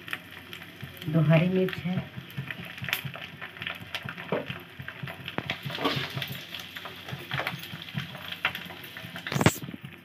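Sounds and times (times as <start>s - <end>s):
spices sizzling and popping in oil: 0.0s - 10.0s.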